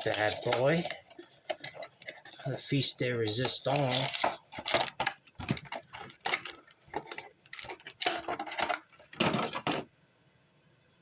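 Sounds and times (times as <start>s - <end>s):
packaging clicks and rustles: 0.0s - 9.9s.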